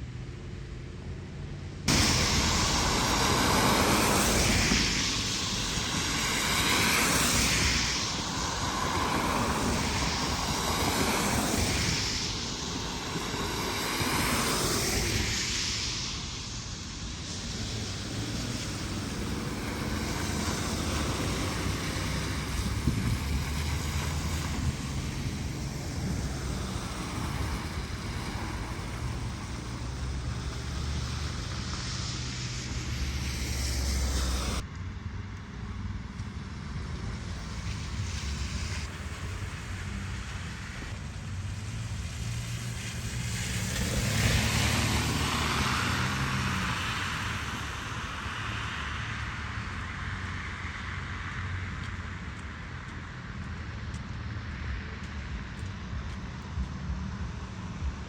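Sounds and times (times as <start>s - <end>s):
cars passing: 0.0s - 58.0s
traffic whoosh: 0.0s - 58.0s
wind: 0.0s - 58.0s.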